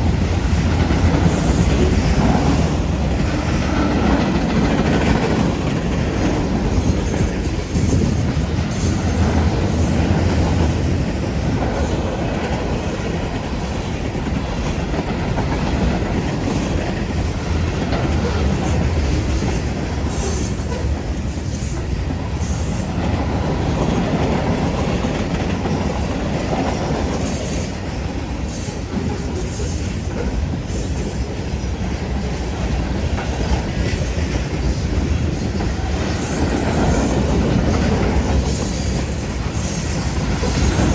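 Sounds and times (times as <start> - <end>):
train rumbling and wheels clacking: 0.0 - 40.9.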